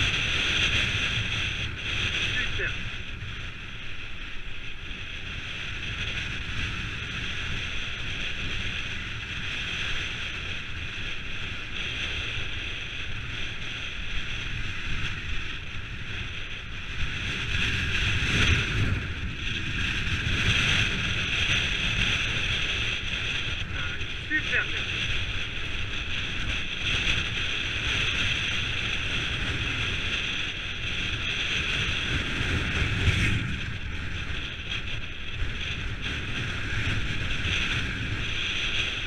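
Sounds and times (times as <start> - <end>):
bike tyres rolling on dirt: 0.0 - 39.0
wind buffeting microphone: 0.0 - 39.0.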